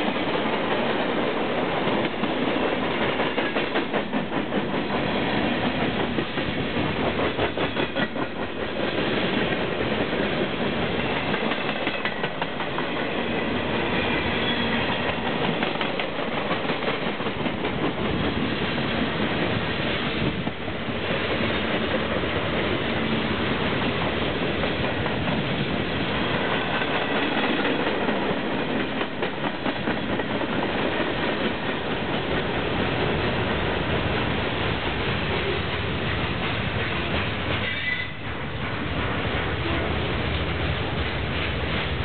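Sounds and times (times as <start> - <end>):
freight train wheels clattering: 0.0 - 42.0.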